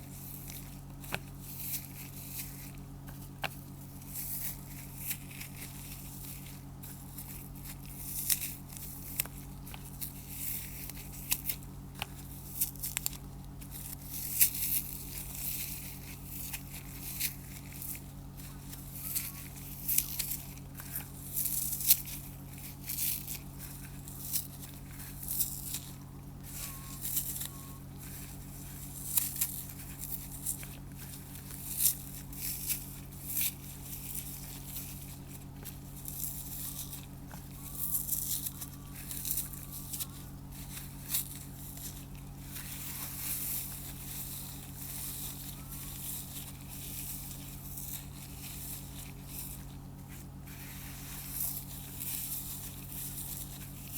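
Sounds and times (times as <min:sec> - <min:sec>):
floral foam crunching: 0:00.0 - 0:53.9.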